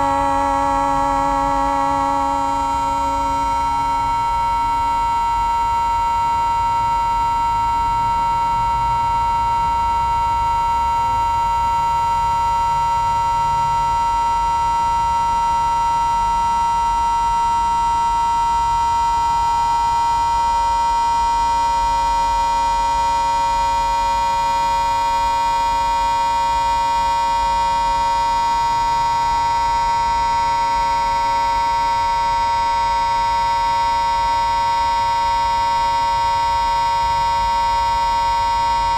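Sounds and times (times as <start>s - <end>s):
sustained drone: 0.0s - 38.9s.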